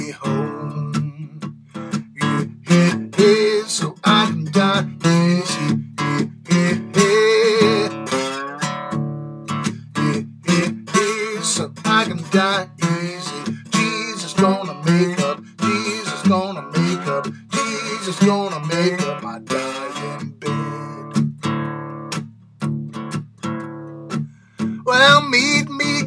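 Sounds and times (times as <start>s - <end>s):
slide acoustic guitar blues: 0.0s - 26.0s.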